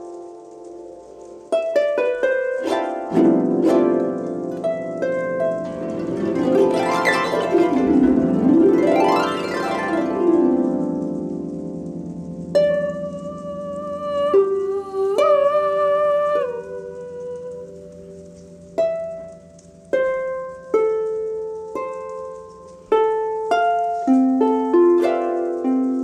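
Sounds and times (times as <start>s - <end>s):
plucked string music: 0.0s - 26.0s.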